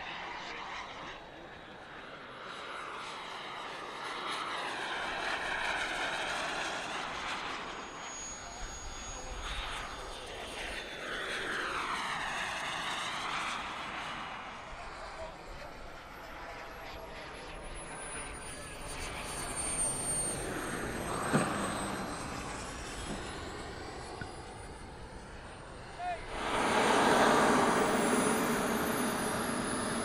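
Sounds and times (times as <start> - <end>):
model jet turbine whine: 0.0 - 30.0.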